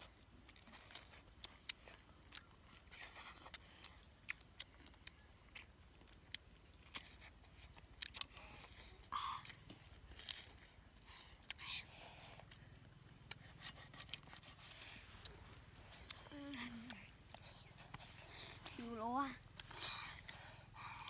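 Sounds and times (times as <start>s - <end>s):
chewing and pulling meat: 0.0s - 21.0s.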